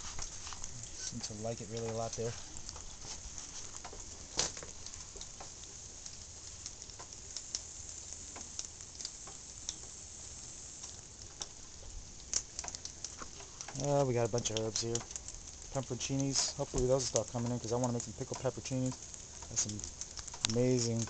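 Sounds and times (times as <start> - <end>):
faint crackling clicks: 0.0 - 21.0
leaves rustling against camera: 0.0 - 21.0.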